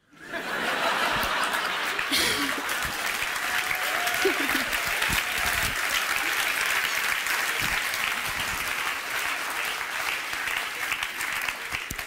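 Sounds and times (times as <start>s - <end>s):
audience applauding: 0.3s - 12.0s.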